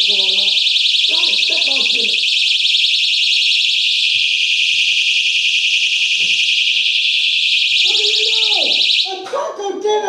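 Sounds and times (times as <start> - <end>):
fire alarm tone: 0.0 - 9.1.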